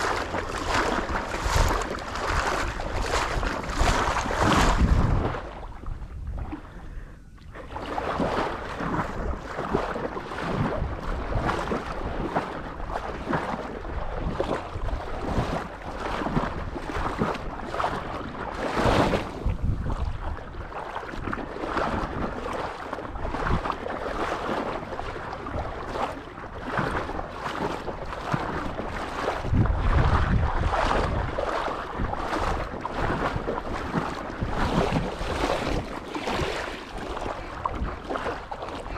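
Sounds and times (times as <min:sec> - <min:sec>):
wind buffeting the microphone: 0:00.0 - 0:38.9.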